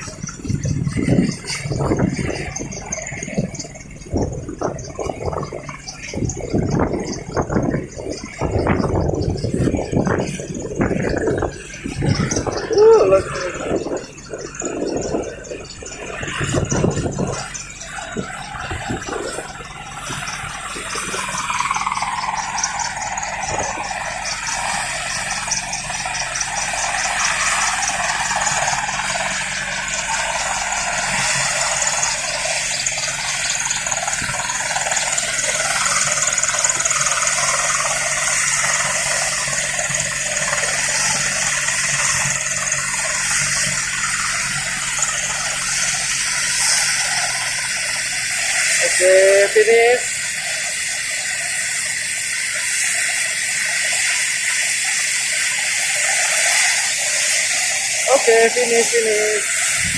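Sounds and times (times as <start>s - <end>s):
helicopter engine whine: 0.0s - 59.9s.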